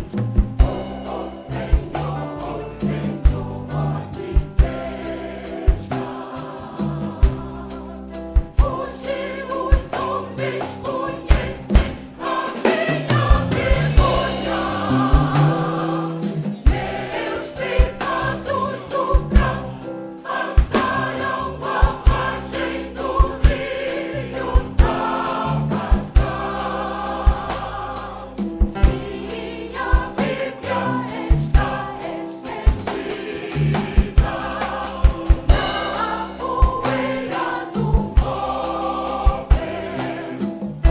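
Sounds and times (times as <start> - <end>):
choir singing gospel: 0.0 - 40.9
instrumental accompaniment with beat: 0.0 - 40.9.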